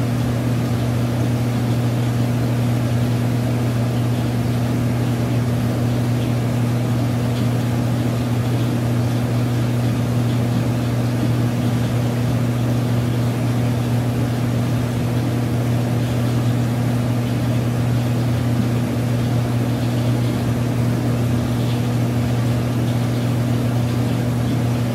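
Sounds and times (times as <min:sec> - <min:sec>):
aquarium equipment humming: 0:00.0 - 0:24.9.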